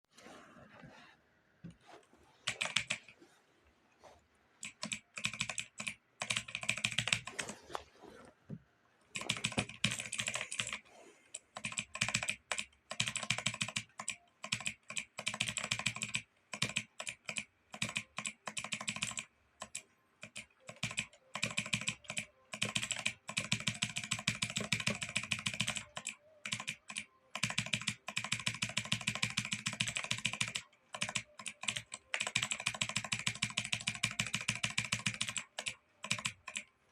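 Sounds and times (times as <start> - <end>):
computer keyboard typing: 2.4 - 3.2, 4.6 - 7.6, 9.1 - 36.9.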